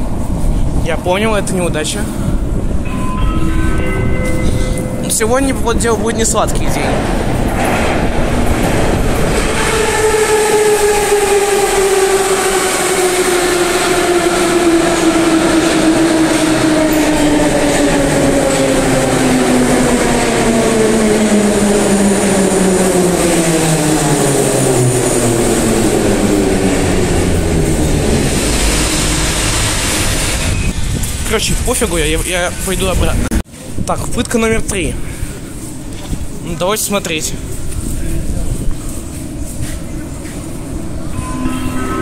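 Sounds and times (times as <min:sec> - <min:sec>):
train drive whine: 0:00.0 - 0:33.6, 0:34.2 - 0:42.0
train low rumble: 0:00.0 - 0:42.0.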